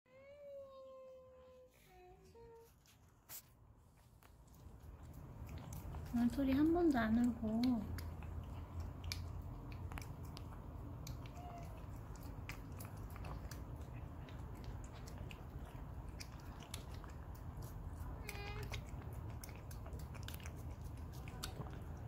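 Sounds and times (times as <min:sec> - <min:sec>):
cat licking wet smacking: 0:04.3 - 0:22.0.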